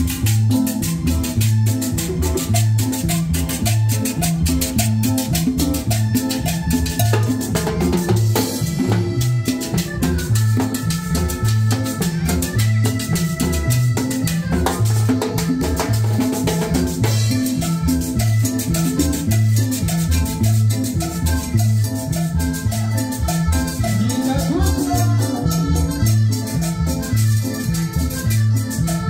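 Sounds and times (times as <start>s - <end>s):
congas: 0.0s - 29.0s
drum kit: 0.0s - 29.0s
electric bass line: 0.0s - 29.0s
electric guitar: 0.0s - 29.0s
latin dance band playing: 0.0s - 29.0s
sustained keyboard notes: 0.0s - 29.0s.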